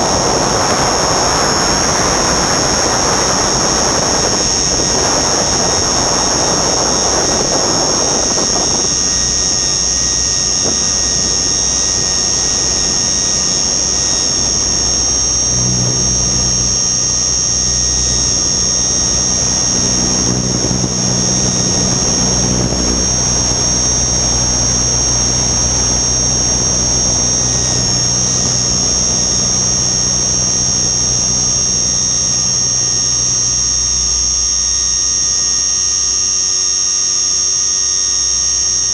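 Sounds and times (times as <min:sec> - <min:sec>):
wind noise: 0:00.0 - 0:34.9
low humming tone: 0:00.0 - 0:38.9
model helicopter whine: 0:00.0 - 0:38.9
rotor drone: 0:00.0 - 0:38.9.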